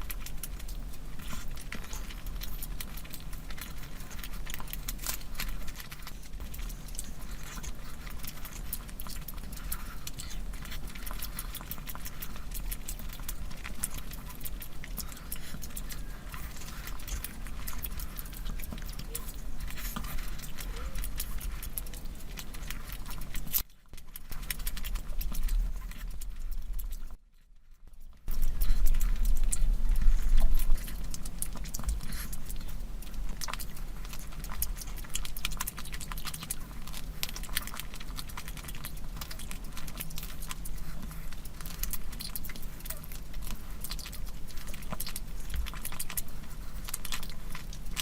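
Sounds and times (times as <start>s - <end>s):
wet chewing clicks and smacks: 0.0s - 48.0s.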